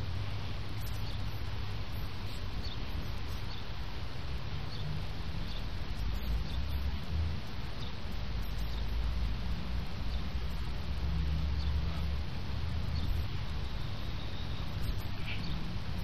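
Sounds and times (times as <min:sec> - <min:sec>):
wind rumbling on microphone: 0:00.0 - 0:16.0
small birds chirping: 0:00.4 - 0:16.0.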